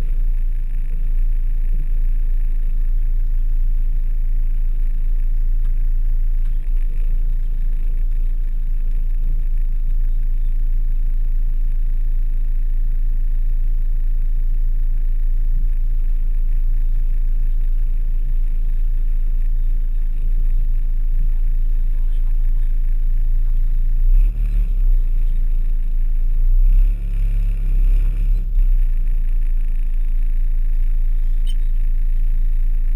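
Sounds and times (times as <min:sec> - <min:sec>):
van engine rumbling: 0:00.0 - 0:32.9.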